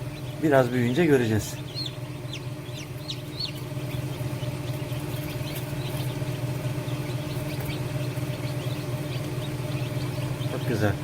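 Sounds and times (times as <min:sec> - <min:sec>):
chicks peeping: 0:00.0 - 0:11.0
incubator machinery humming: 0:00.0 - 0:11.0.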